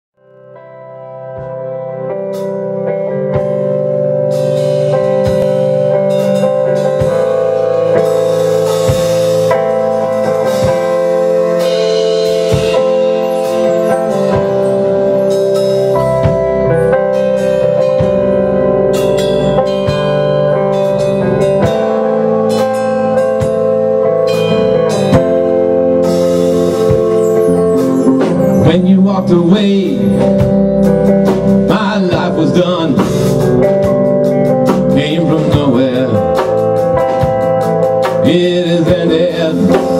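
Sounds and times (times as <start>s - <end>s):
electric guitar: 0.2s - 39.9s
drum kit: 0.8s - 39.9s.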